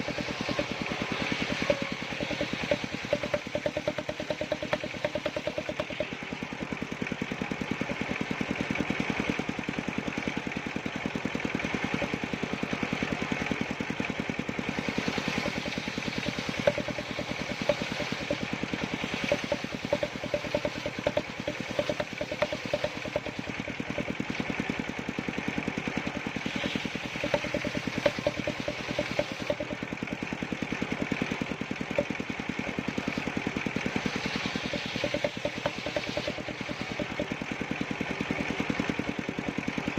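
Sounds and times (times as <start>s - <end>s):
saw machine engine running: 0.0s - 39.9s.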